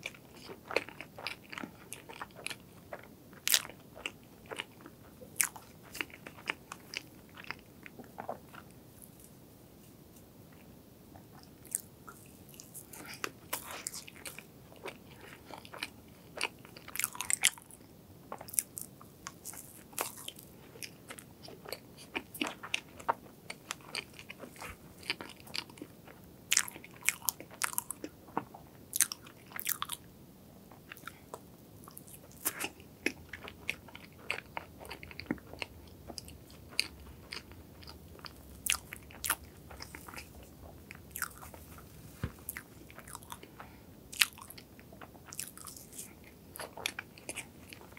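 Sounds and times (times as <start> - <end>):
close chewing with mouth clicks: 0.0 - 9.3, 10.5 - 30.0, 30.7 - 47.9.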